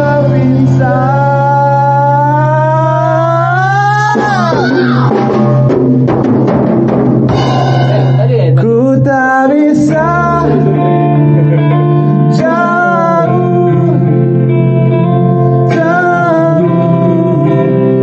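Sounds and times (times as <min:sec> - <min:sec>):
person singing: 0:00.0 - 0:05.8, 0:07.4 - 0:18.0
plucked guitar: 0:00.0 - 0:18.0.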